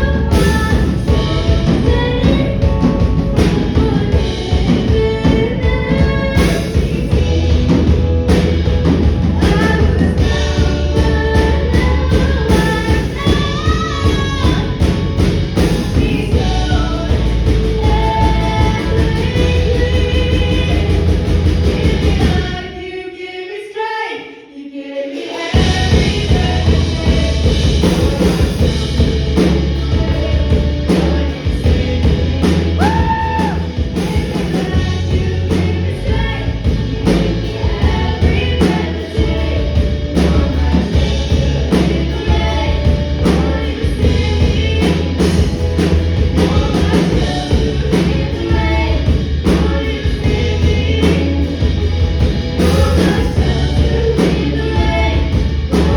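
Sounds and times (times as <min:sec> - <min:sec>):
rock band playing: 0:00.0 - 0:22.6, 0:25.5 - 0:55.9
steady drum beat: 0:00.0 - 0:22.8, 0:25.5 - 0:55.9
person singing: 0:00.0 - 0:55.9.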